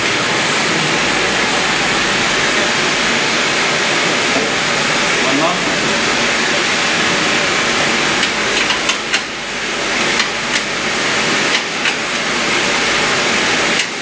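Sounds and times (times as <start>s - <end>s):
steady loud hiss: 0.0s - 14.0s.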